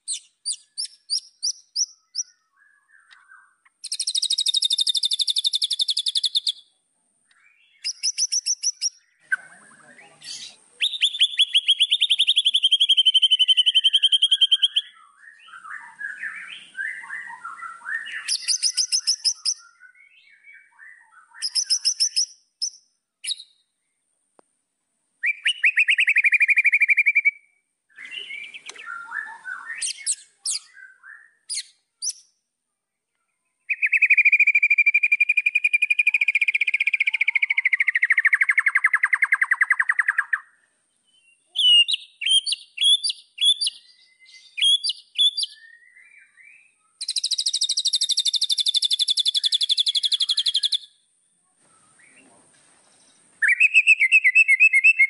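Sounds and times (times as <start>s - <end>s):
bird singing varied trills: 0.0s - 24.1s, 25.2s - 52.3s, 52.9s - 55.0s.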